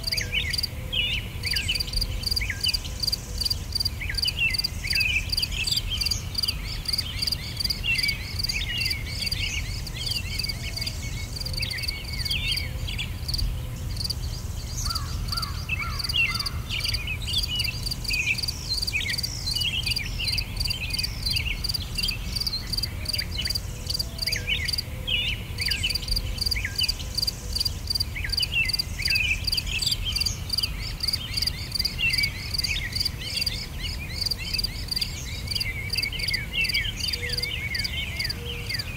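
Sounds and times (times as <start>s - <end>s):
insects chirping: 0.0s - 0.7s, 1.4s - 24.9s, 25.6s - 38.9s.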